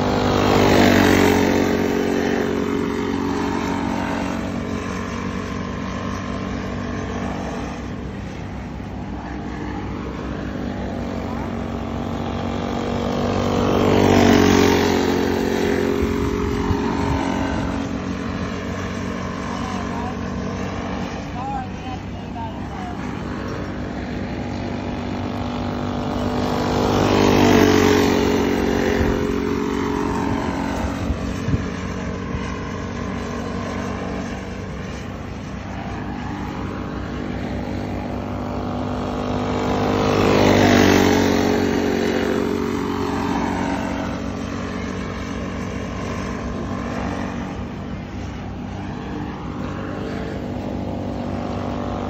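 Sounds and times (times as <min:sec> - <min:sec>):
go-kart engines racing: 0:00.0 - 0:52.0.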